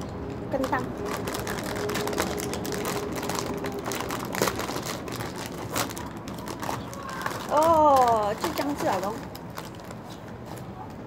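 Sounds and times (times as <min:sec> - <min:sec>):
plastic snack bag crinkling: 0:00.5 - 0:10.2.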